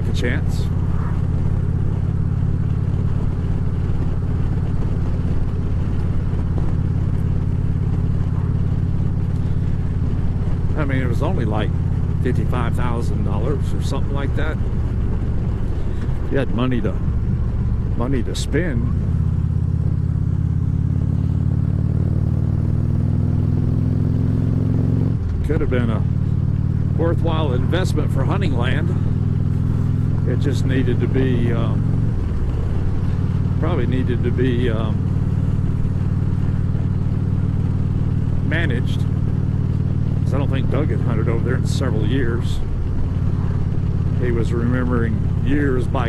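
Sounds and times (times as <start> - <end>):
motorcycle engine droning: 0.0 - 46.0
wind and road noise: 0.0 - 46.0.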